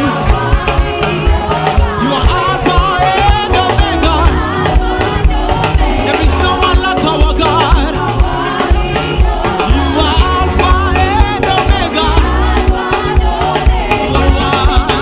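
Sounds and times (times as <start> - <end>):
band with bass and drums: 0.0 - 15.0
gospel singing with vibrato: 0.0 - 15.0.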